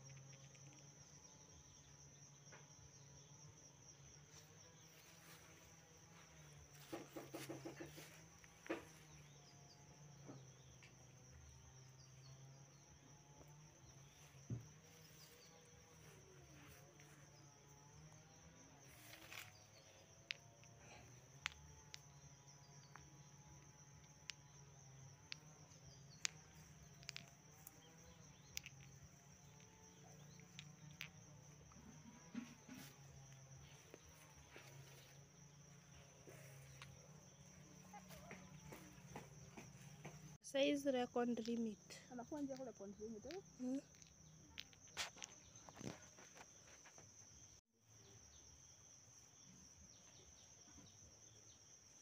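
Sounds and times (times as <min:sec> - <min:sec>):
insect trill: 0:00.0 - 0:52.0.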